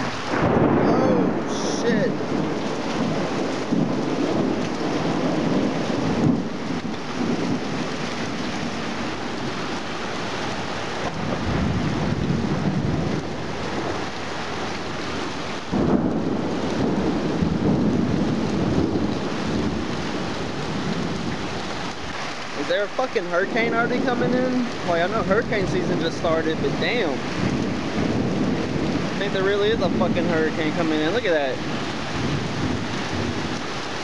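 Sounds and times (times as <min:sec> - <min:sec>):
heavy rain pouring: 0:00.0 - 0:34.0
thunder rolling: 0:00.0 - 0:34.0.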